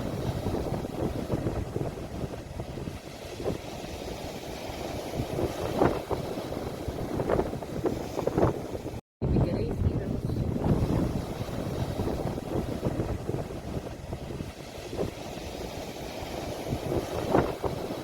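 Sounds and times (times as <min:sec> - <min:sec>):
sea waves rumbling: 0:00.0 - 0:18.0
wind buffeting microphone: 0:00.0 - 0:18.0.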